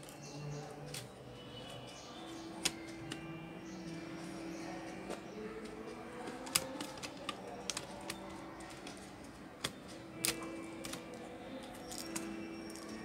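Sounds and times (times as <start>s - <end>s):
keyboard keys clicking: 0.8s - 1.8s, 2.5s - 4.0s, 4.8s - 13.0s.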